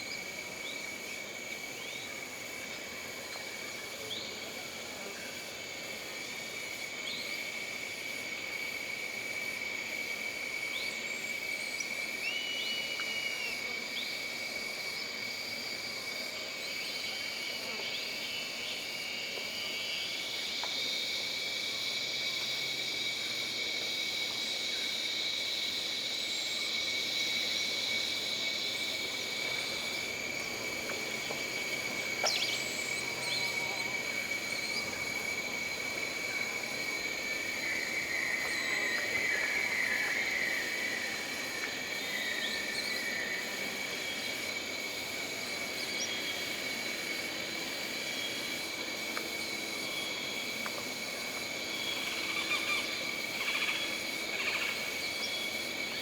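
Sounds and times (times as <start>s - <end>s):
insects droning: 0.0s - 56.0s
rattling insect trill: 5.6s - 56.0s.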